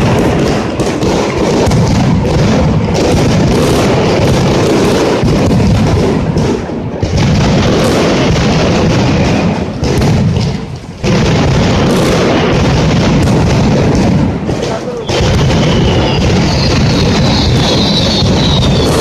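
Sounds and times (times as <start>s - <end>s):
firecracker barrage: 0.0s - 19.0s.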